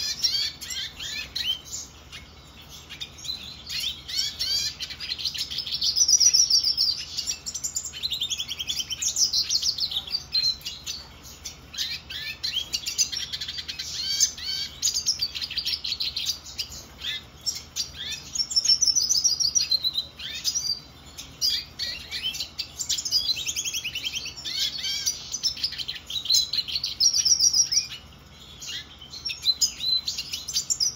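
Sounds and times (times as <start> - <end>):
bird singing twittering song: 0.0 - 30.9.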